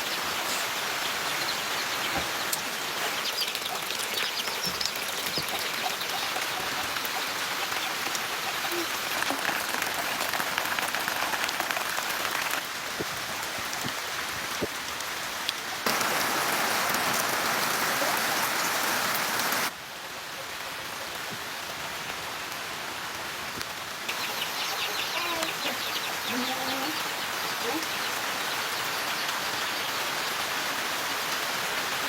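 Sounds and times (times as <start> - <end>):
rain pattering on surfaces: 0.0 - 32.0.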